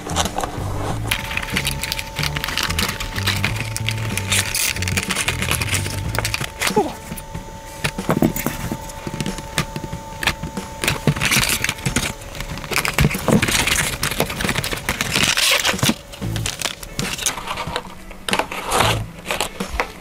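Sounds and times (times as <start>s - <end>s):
box and plastic crinkling: 0.0s - 20.0s
packaging clicks and taps: 1.1s - 18.6s.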